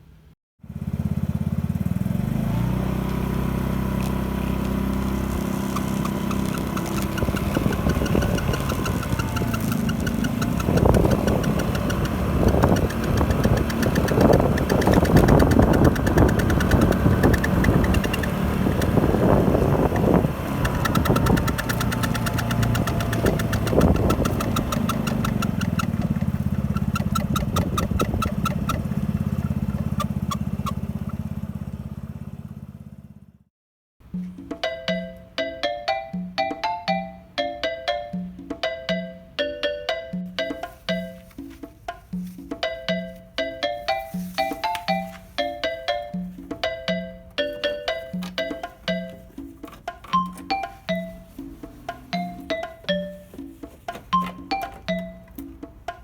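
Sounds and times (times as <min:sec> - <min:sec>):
scooter engine running: 0:00.6 - 0:33.5, 0:40.2 - 0:56.0.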